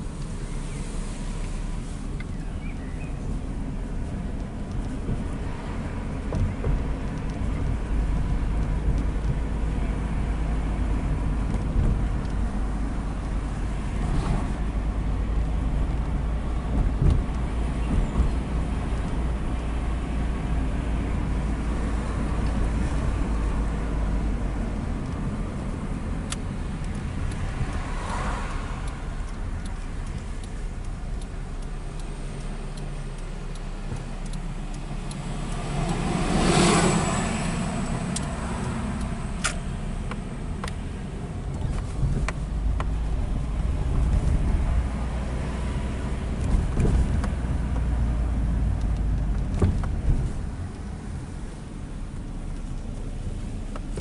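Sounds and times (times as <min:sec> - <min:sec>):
car driving heard from inside: 0:00.0 - 0:54.0.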